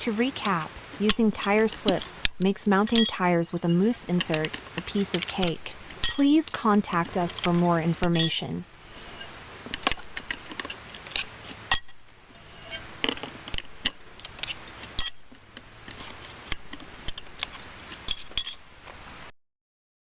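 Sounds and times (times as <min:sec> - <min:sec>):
tyre irons clinking on wheel rim: 0:00.0 - 0:19.0.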